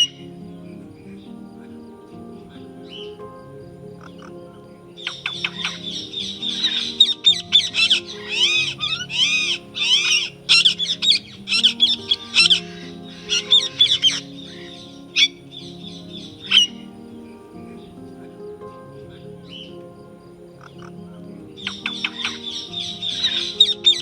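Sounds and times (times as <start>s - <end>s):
soft background music: 0.0s - 24.0s
songbird singing: 0.0s - 24.0s.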